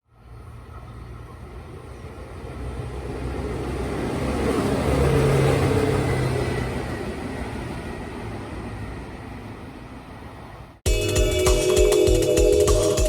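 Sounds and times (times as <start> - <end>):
train rumbling: 0.2 - 13.0.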